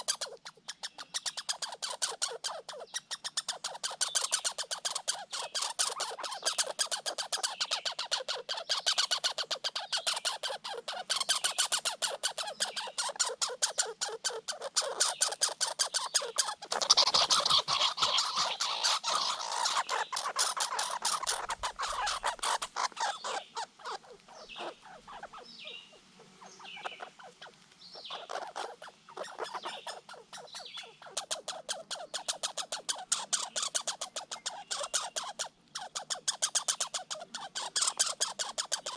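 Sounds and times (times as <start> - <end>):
squirrel chattering: 0.0 - 38.9
squirrel chirps: 0.0 - 38.9.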